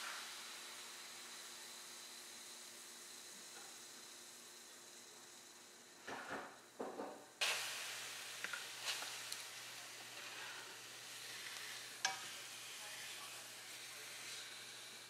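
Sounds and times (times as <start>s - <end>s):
pepper sizzling on a grill pan: 0.0s - 6.1s, 6.8s - 15.0s.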